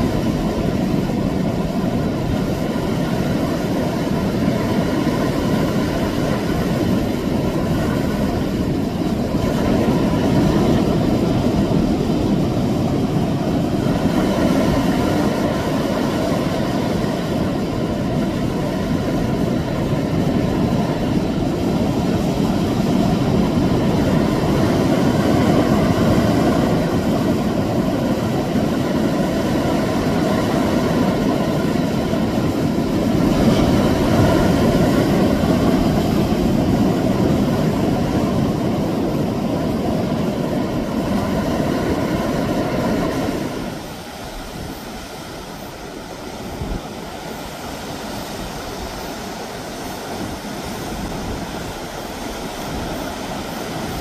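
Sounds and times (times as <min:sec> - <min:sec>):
sea waves washing against rocks: 0:00.0 - 0:54.0.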